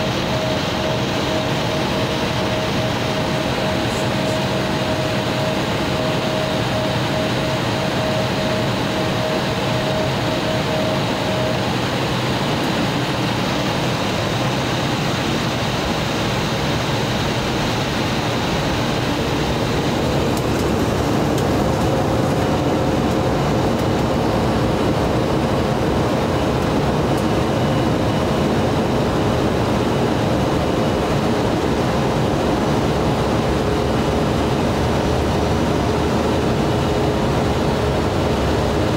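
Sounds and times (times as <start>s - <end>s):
jet engines roaring with whine: 0.0s - 38.9s.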